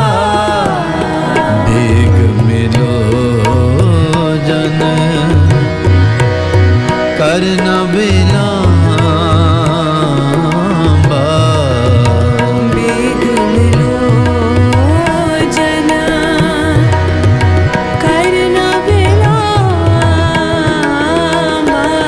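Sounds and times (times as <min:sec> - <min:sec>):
man and woman singing: 0:00.0 - 0:05.8, 0:07.2 - 0:22.0
harmonium: 0:00.0 - 0:22.0
tabla drums: 0:00.0 - 0:22.0.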